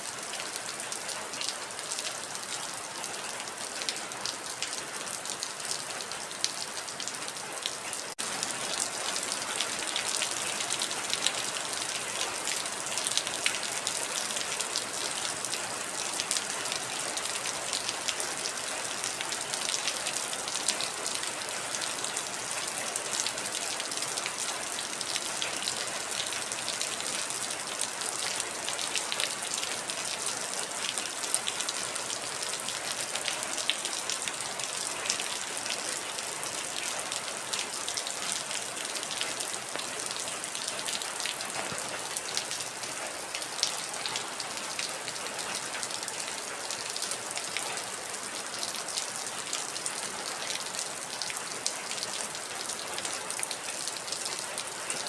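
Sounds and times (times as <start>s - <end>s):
heavy rain falling: 0.0s - 55.0s
raindrops ticking on a surface: 0.3s - 55.0s.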